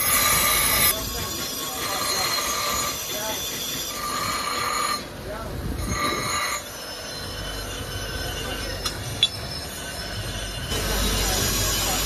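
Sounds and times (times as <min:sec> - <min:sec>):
grinding wheel humming: 0:00.0 - 0:12.0
steel blade squealing on wheel: 0:00.0 - 0:12.0.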